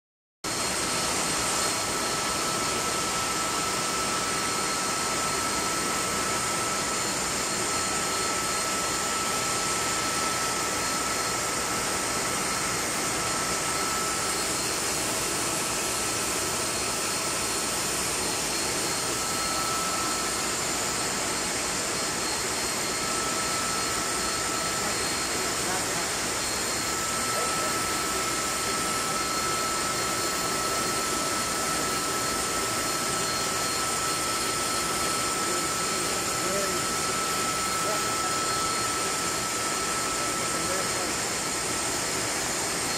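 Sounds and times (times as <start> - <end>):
compressor machinery running: 0.5 - 42.9
high-pitched whine: 0.5 - 42.9.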